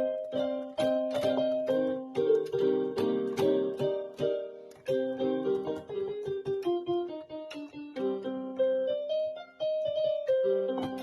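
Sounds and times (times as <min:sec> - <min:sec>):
solo piano: 0:00.0 - 0:11.0.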